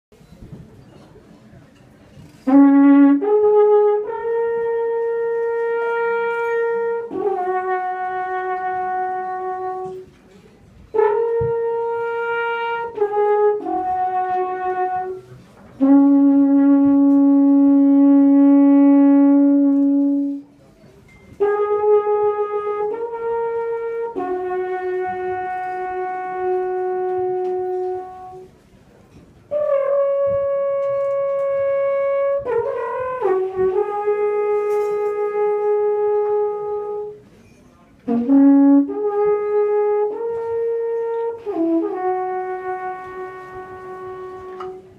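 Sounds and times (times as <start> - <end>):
alphorn playing long held notes: 2.4 - 10.2, 10.9 - 20.5, 21.4 - 28.6, 29.5 - 37.3, 38.0 - 44.9.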